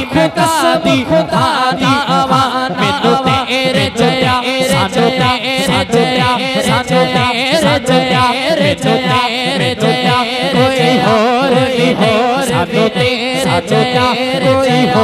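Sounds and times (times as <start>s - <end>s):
low rhythmic thumping beat: 0.0s - 15.0s
man singing into a microphone: 0.0s - 15.0s.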